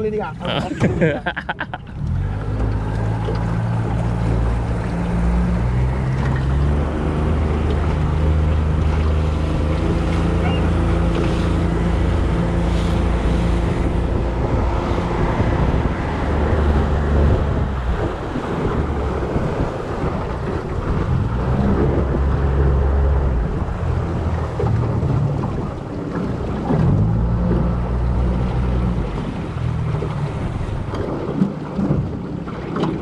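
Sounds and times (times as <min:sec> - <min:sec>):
boat motor running: 0:00.0 - 0:33.0
water splashing along hull: 0:00.0 - 0:33.0
wind buffeting microphone: 0:02.5 - 0:33.0.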